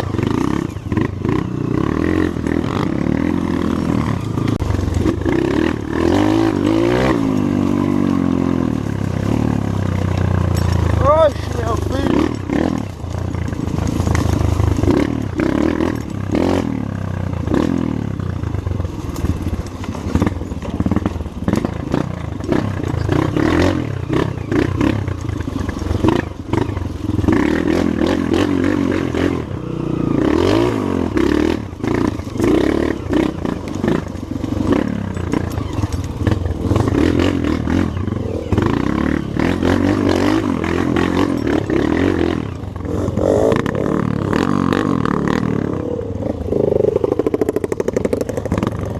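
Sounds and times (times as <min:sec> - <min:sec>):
motorcycle engine revving: 0:00.0 - 0:48.9
knocks and rattles: 0:02.2 - 0:16.7, 0:17.4 - 0:29.0, 0:31.2 - 0:45.1, 0:46.5 - 0:48.9.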